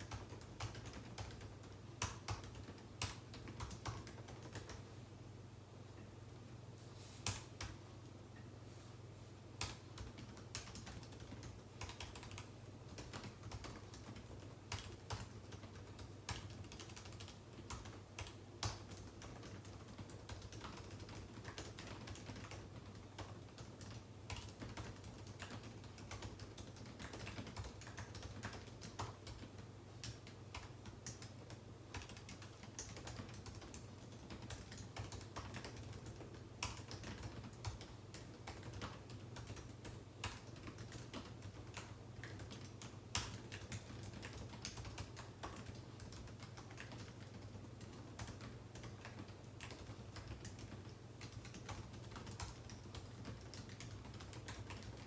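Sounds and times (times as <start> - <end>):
keyboard typing: 0.0 - 4.9, 9.6 - 55.0.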